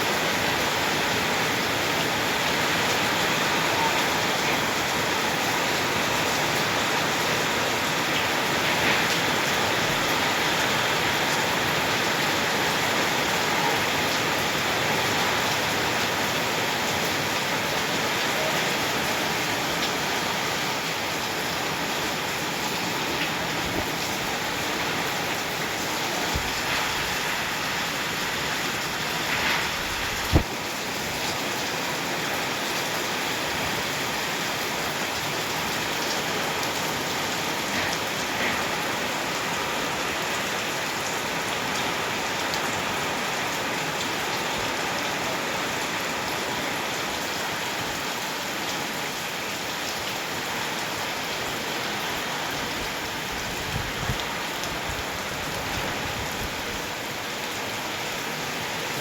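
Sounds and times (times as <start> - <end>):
rain splashing on surfaces: 0.0 - 59.0.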